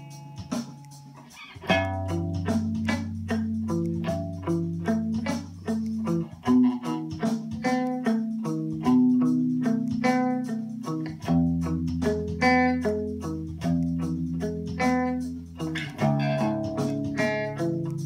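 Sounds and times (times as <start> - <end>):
drums: 0.0 - 18.0
electric guitar picking notes: 0.0 - 18.0
bass notes: 1.6 - 18.0.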